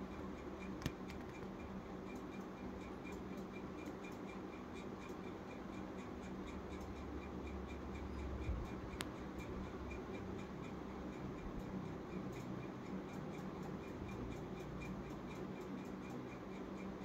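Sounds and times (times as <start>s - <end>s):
faint regular ticking: 0.0s - 17.0s.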